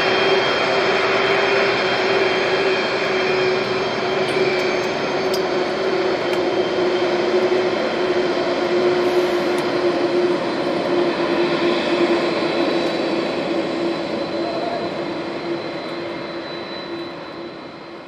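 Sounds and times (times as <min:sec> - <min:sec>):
jet engines droning: 0:00.0 - 0:18.0.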